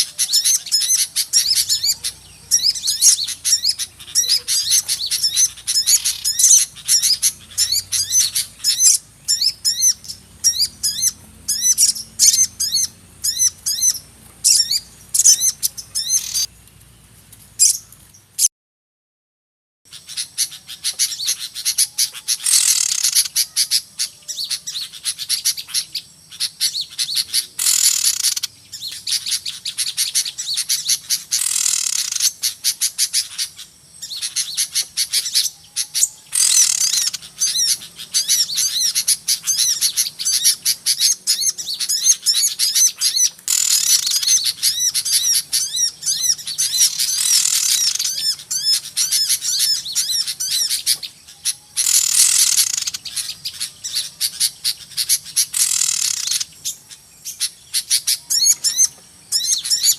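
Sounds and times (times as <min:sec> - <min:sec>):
small birds chirping: 0:00.0 - 0:18.5, 0:19.9 - 0:59.9.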